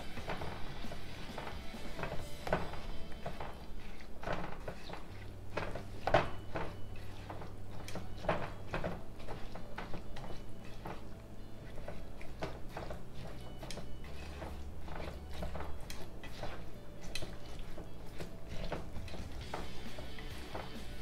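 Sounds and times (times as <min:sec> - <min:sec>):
spatula scraping pan: 0:00.0 - 0:21.0
wet squelches of thick mixture: 0:00.0 - 0:21.0.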